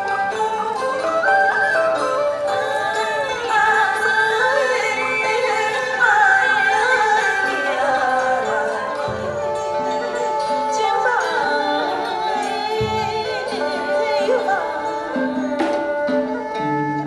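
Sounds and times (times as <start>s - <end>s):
traditional instruments playing: 0.0s - 17.0s.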